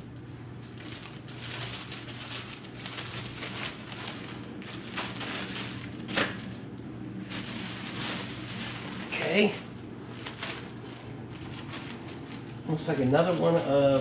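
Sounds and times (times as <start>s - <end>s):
plastic packaging crinkling: 0.6s - 6.6s, 7.3s - 14.0s.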